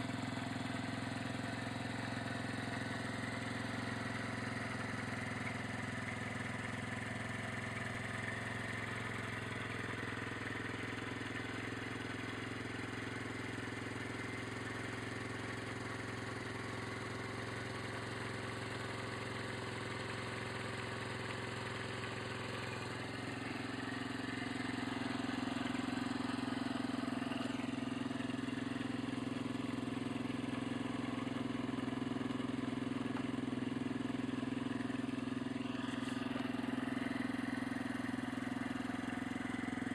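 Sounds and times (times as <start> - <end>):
motorbike engine idling: 0.0 - 39.9.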